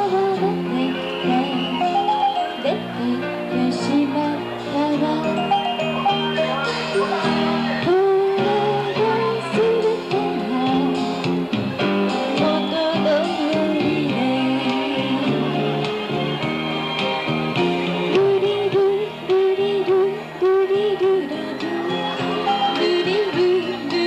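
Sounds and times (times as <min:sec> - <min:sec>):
woman singing with vibrato: 0:00.0 - 0:11.2, 0:12.3 - 0:15.9, 0:18.1 - 0:24.0
instrumental accompaniment: 0:00.0 - 0:24.0.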